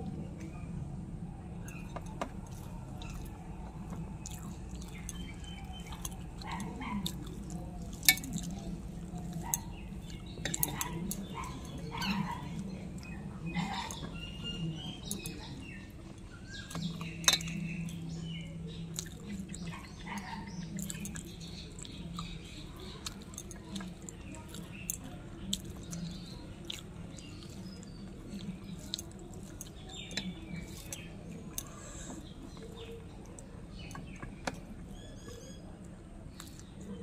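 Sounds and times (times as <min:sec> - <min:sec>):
birds chirping: 0:00.0 - 0:37.0
chewing and mouth smacking: 0:01.6 - 0:37.0.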